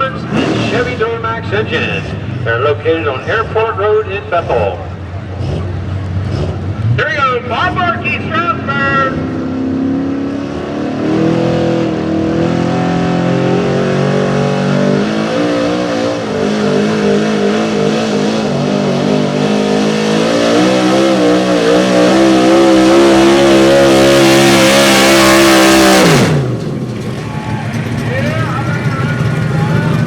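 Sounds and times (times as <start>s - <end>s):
pickup truck engine revving hard: 0.0s - 30.0s.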